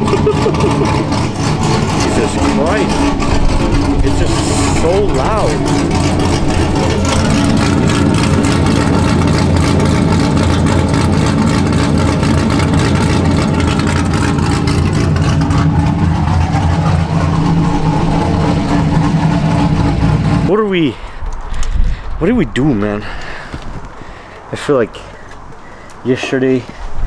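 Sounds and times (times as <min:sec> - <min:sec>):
loud car engine idling: 0:00.0 - 0:26.9.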